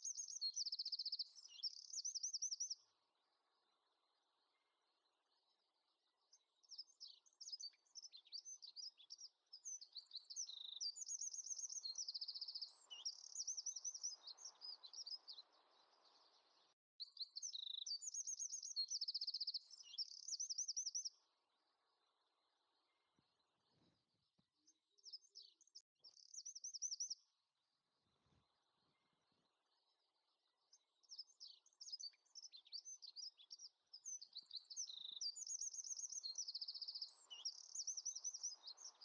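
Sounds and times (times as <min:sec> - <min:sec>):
songbird chirping and trilling: 0:00.0 - 0:39.0.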